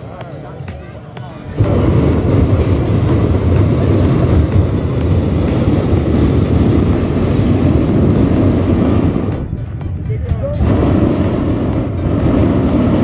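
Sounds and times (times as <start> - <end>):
propane burner blast: 1.6 - 9.8, 10.4 - 13.0.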